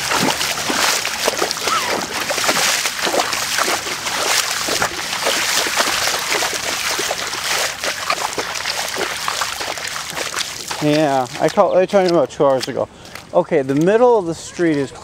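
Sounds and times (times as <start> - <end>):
wading through water: 0.0 - 15.0.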